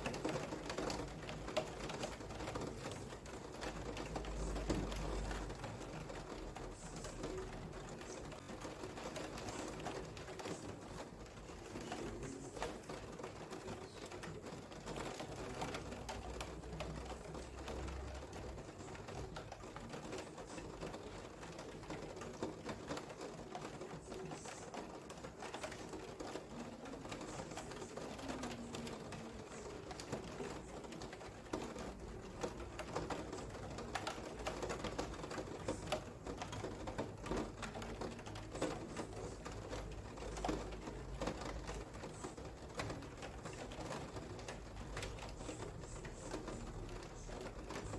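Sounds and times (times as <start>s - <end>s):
rain patter: 0.0s - 47.9s.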